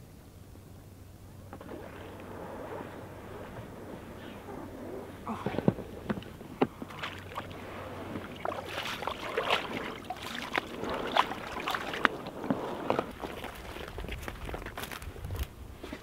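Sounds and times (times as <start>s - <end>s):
paddle splashing in water: 1.5s - 14.8s.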